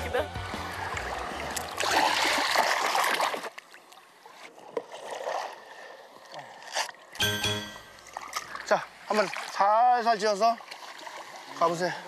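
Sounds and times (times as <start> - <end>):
water lapping: 0.0 - 7.2, 8.0 - 12.0
water splashing around wading people: 0.0 - 12.0.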